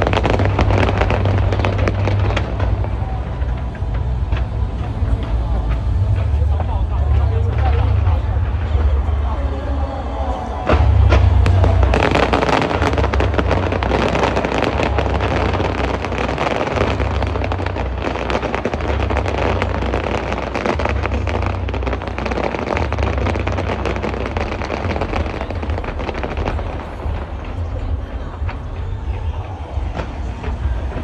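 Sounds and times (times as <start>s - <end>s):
fireworks booming: 0.0s - 31.0s
fireworks crackling and popping: 0.0s - 31.0s.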